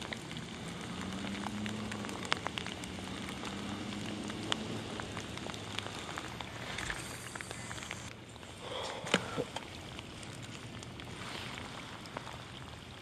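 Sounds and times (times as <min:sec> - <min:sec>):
raindrops ticking close by: 0:00.0 - 0:13.0
steady rain falling: 0:00.0 - 0:13.0.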